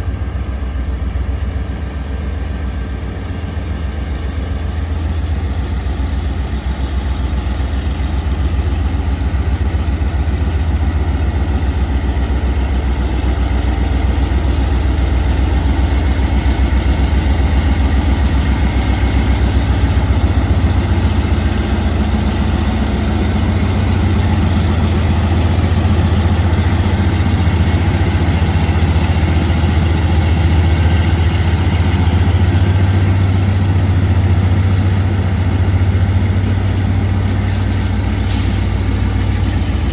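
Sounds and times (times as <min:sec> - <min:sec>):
diesel locomotive engine throbbing: 0:00.0 - 0:39.9.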